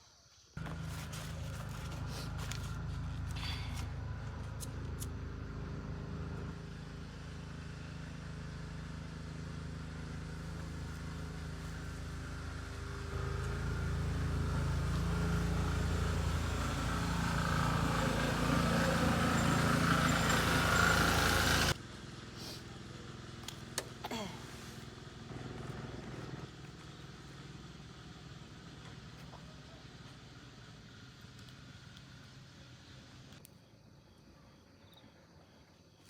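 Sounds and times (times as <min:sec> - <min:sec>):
vehicle engine running: 0:00.6 - 0:33.4.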